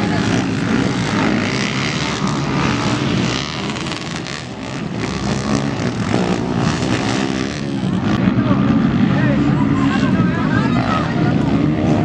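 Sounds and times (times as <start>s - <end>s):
quad engines revving: 0.0s - 12.0s.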